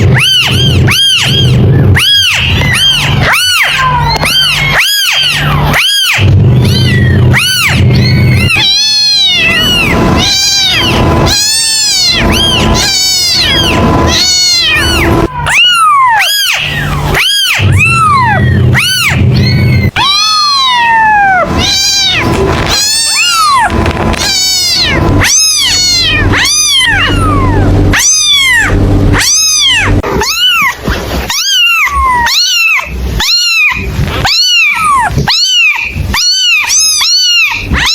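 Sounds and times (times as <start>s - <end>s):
kittens meowing: 0.0s - 37.9s.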